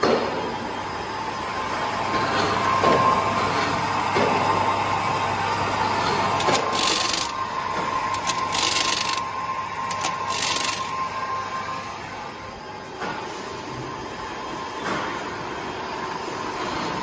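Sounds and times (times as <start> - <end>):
labeling machine hum and whine: 0.0 - 17.0.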